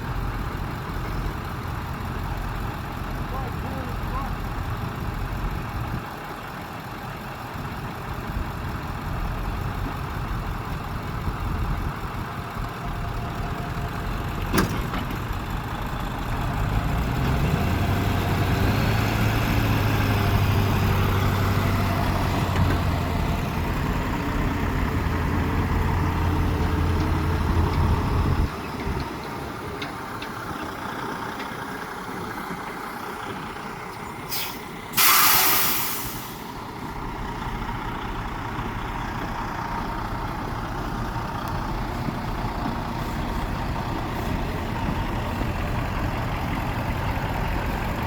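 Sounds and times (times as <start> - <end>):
truck engine humming: 0.0 - 48.0.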